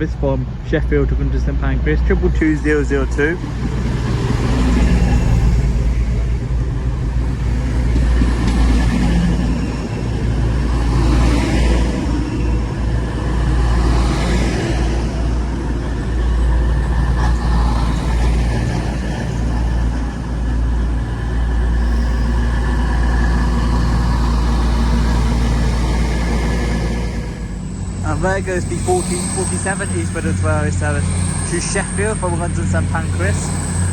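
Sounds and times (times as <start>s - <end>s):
diesel train engines droning: 0.0s - 33.9s
wheel and rail noise: 0.0s - 33.9s.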